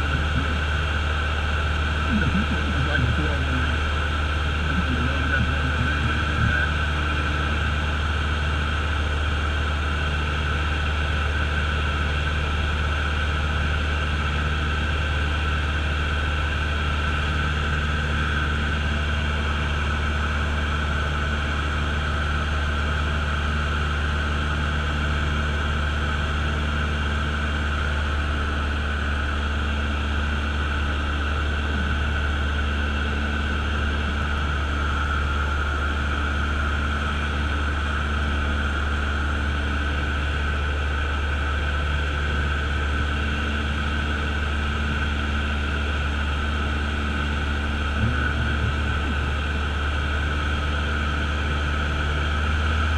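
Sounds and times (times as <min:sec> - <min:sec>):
light aircraft engine droning: 0:00.0 - 0:52.9.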